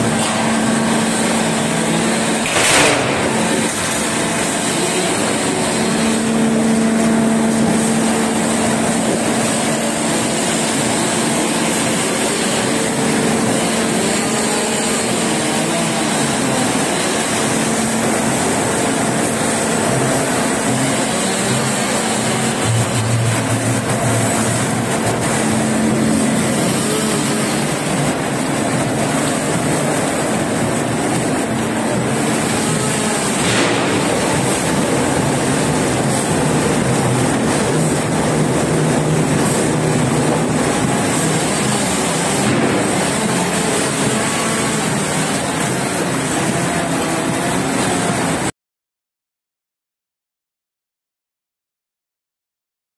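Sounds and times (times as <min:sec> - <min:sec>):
veneer lathe and conveyors running: 0:00.0 - 0:48.5.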